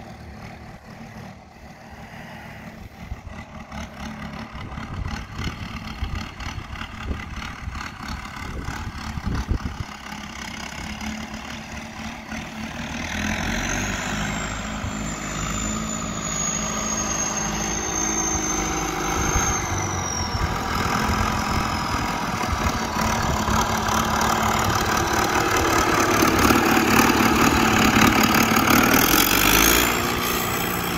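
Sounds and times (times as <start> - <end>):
diesel tractor engine running: 0.0 - 30.9.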